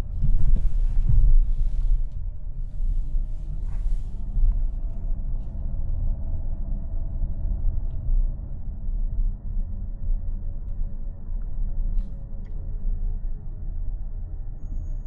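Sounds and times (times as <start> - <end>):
car engine and road noise: 0.0 - 15.0
faint hum: 0.0 - 15.0.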